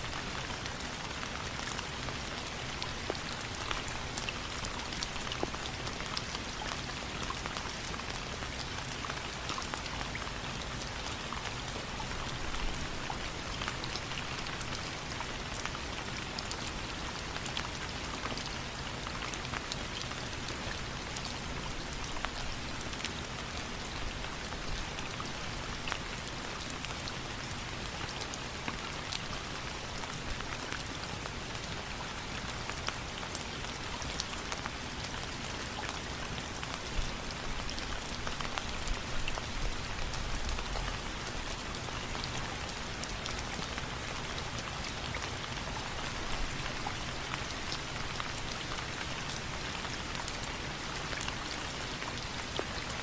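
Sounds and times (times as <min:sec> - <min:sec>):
rain falling on a surface: 0:00.0 - 0:53.0.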